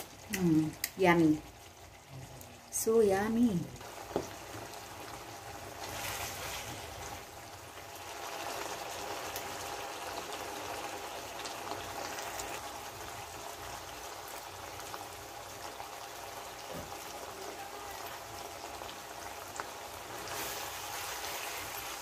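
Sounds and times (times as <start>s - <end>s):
sauce bubbling in a pot: 0.0s - 22.0s.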